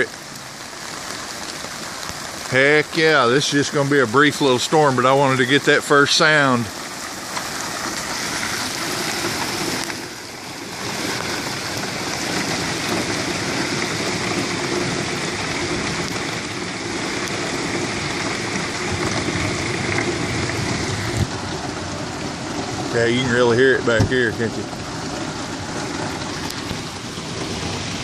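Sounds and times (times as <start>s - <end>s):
rain falling: 0.0s - 28.0s
water pouring through pipes: 0.0s - 28.0s.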